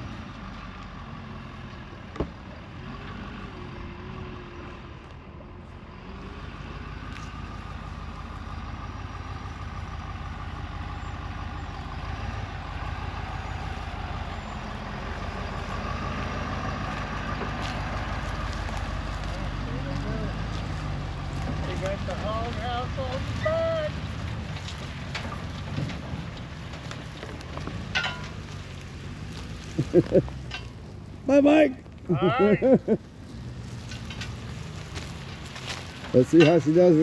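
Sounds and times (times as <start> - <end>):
truck engine under load: 0.0 - 37.0.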